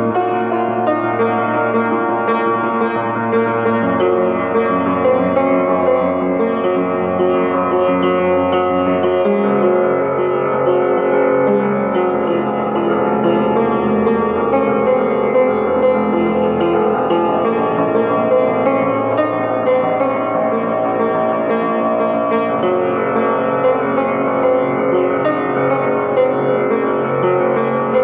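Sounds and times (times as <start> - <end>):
upright piano playing: 0.0 - 28.0.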